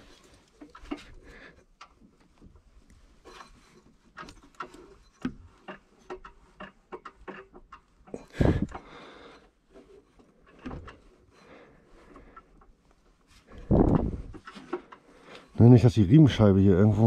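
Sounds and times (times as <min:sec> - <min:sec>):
handling clicks and rustles: 0:00.0 - 0:17.0.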